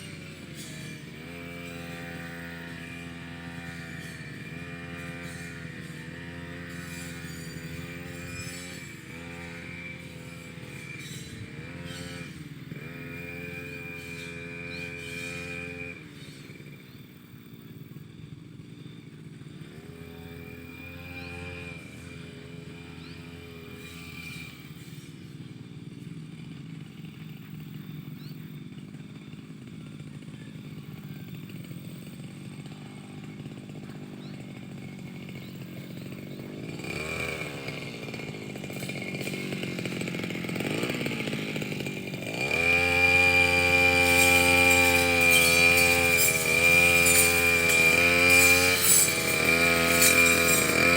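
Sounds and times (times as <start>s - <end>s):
brush cutter engine revving: 0.0s - 50.9s.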